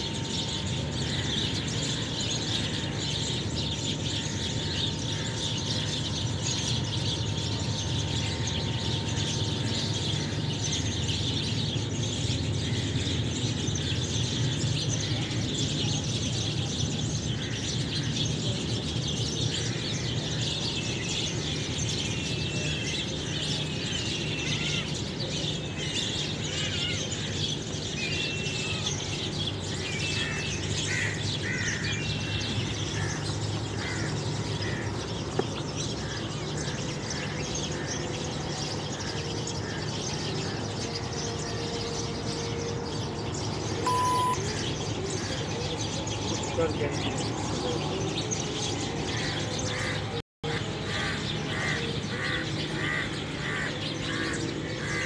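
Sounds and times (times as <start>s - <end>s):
low outdoor background hum: 0.0s - 55.0s
small birds chirping: 0.0s - 55.0s.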